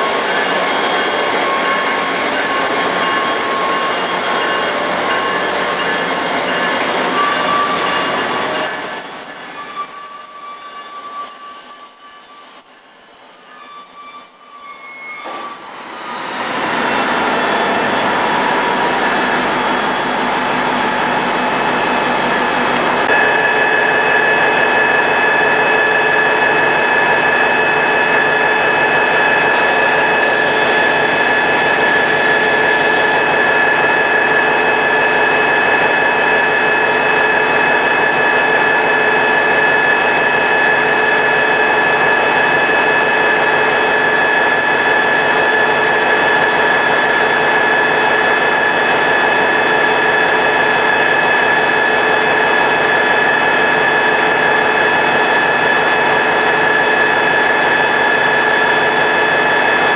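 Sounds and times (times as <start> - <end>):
steel wheels squealing: 0.0 - 11.2, 12.3 - 59.9.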